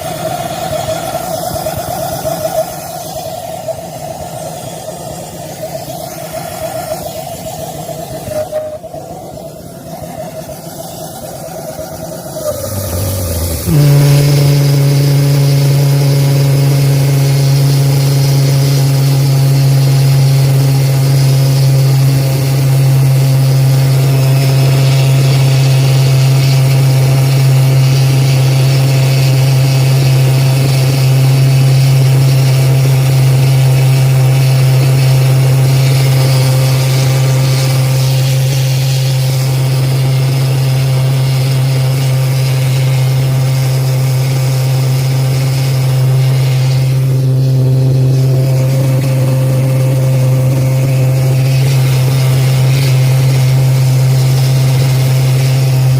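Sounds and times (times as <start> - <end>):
engine running with low hum: 0.0 - 55.9.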